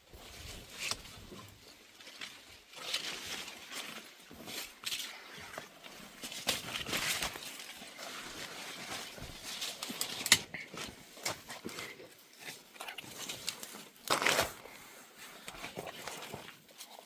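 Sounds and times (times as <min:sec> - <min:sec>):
dry leaves and twigs rustling: 0:00.0 - 0:14.6.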